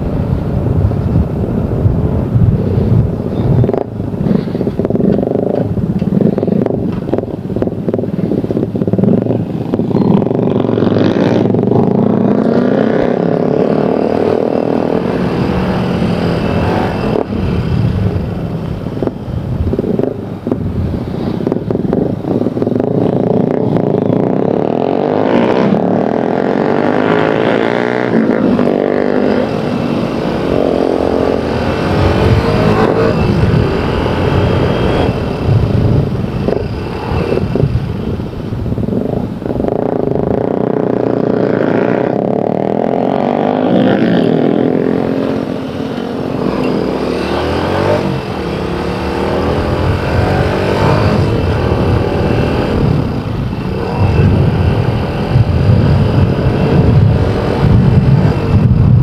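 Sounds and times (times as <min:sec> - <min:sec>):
motorcycle engine revving: 0:02.6 - 0:59.0.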